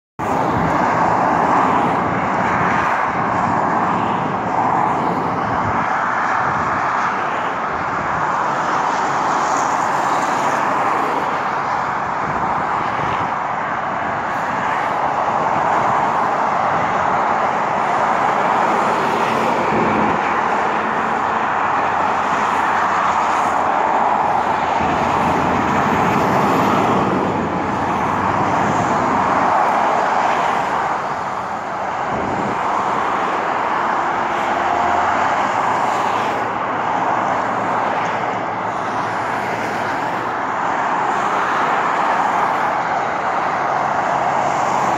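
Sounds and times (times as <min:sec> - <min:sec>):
freeway traffic roar: 0:00.2 - 0:44.9.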